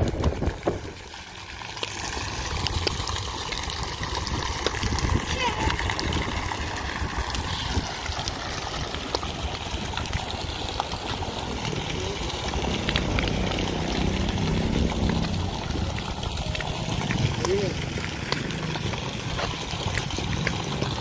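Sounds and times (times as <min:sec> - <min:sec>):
fountain water splashing into pool: 0:00.0 - 0:21.0.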